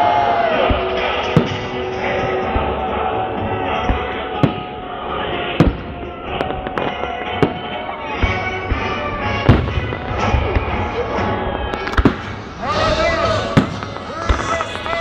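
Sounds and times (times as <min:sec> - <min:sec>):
fireworks banging: 0:00.0 - 0:15.0
music playing: 0:00.0 - 0:15.0.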